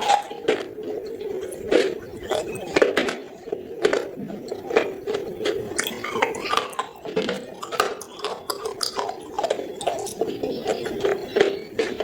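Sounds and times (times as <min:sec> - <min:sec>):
clay pot pieces being chewed: 0:00.0 - 0:12.0.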